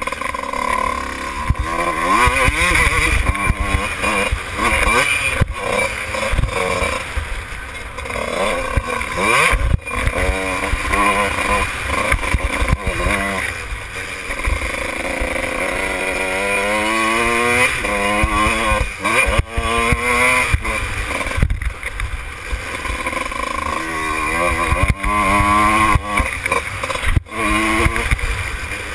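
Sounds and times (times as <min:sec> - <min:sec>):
motocross engine revving: 0:00.0 - 0:28.9.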